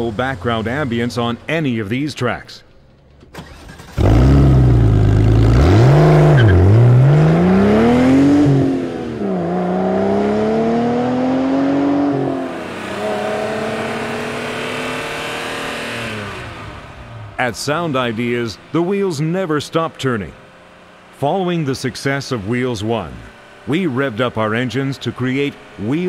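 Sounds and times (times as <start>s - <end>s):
car engine accelerating: 2.8s - 26.0s.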